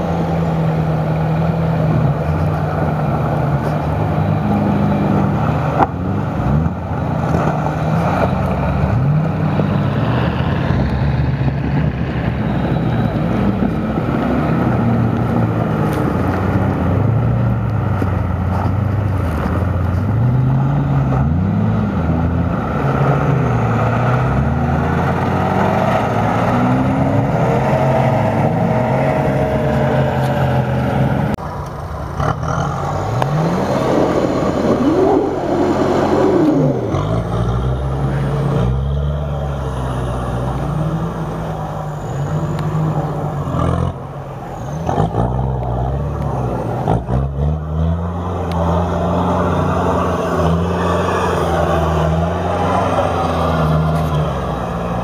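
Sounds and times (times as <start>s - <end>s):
off-road engines revving: 0.0s - 55.0s.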